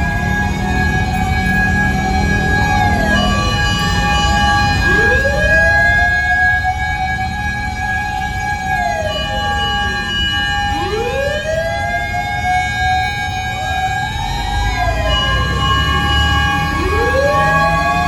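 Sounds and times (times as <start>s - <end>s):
fire truck sirens wailing: 0.0s - 18.0s
trucks rumbling: 0.0s - 18.0s.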